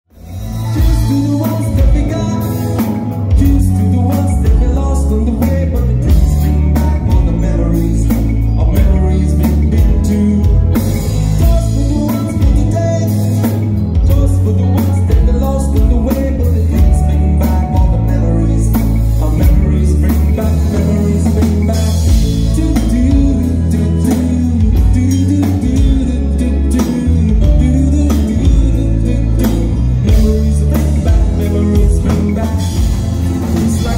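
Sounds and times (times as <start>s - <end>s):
live pop band playing: 0.1s - 33.9s
man singing: 0.2s - 33.9s.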